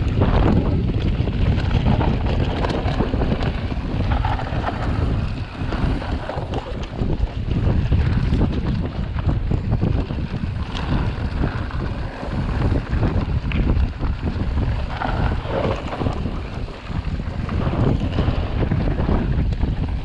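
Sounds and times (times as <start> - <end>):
bike tyres and frame knocking: 0.0 - 20.0
mountain bike rumbling on dirt: 0.0 - 20.0
wind buffeting microphone: 0.0 - 20.0.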